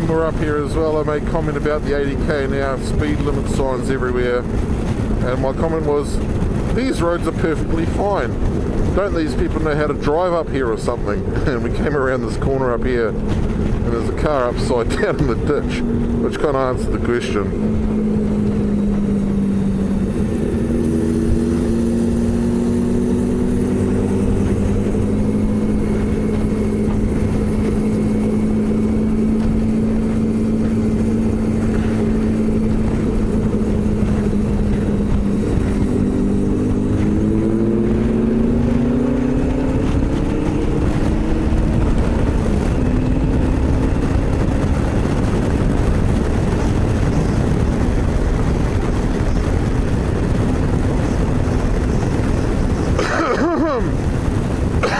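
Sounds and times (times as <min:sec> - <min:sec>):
motorcycle engine: 0:00.0 - 0:54.9
road noise: 0:00.0 - 0:54.9
wind noise: 0:00.0 - 0:54.9.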